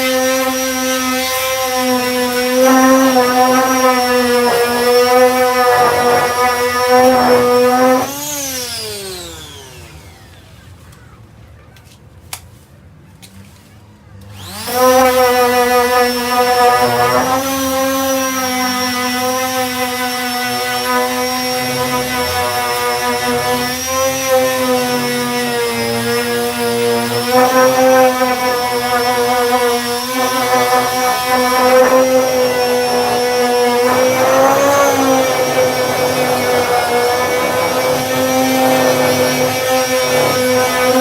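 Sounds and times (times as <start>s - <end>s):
electric sander: 0.0s - 11.0s, 14.2s - 41.0s.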